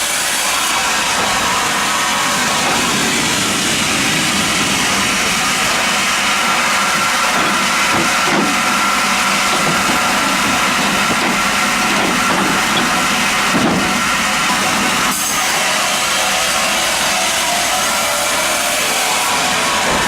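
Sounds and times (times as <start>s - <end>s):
band sawmill running: 0.0s - 20.0s.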